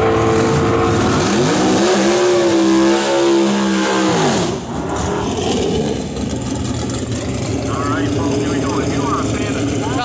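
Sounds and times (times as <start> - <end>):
race car engine revving: 0.0 - 10.0.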